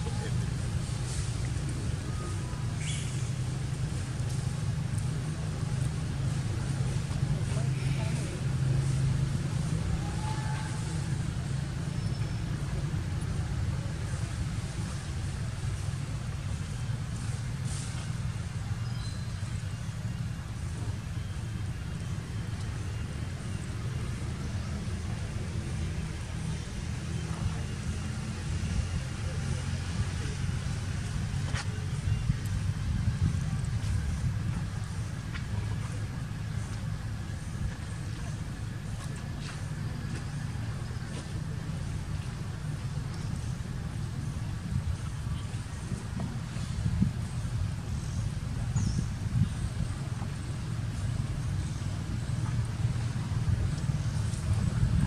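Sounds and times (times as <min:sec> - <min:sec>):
engine running low rumble: 0:00.0 - 0:55.0.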